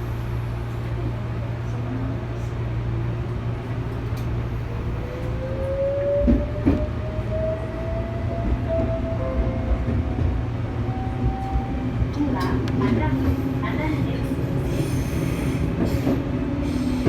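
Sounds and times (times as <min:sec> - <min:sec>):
electric train hum: 0:00.0 - 0:17.0.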